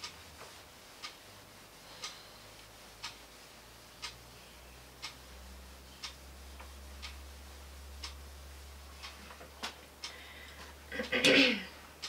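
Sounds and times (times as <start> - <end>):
clock ticking: 0.0 - 11.4
low steady hum: 0.0 - 12.0.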